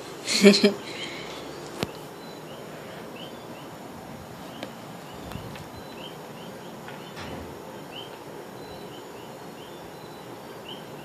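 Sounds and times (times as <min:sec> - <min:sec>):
faint high chirps: 0:00.8 - 0:11.0.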